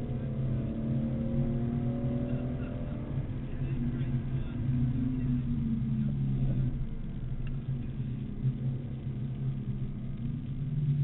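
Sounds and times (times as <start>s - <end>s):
car engine drone from cabin: 0.0s - 11.0s.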